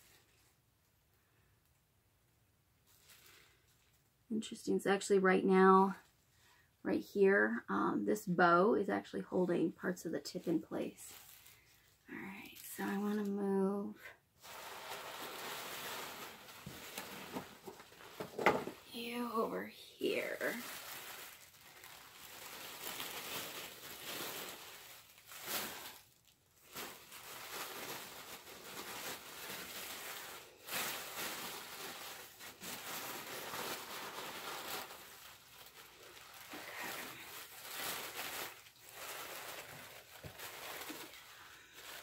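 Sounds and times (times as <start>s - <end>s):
tissue paper rustling: 0.0s - 0.7s, 2.8s - 4.2s, 9.3s - 13.6s, 14.4s - 42.0s.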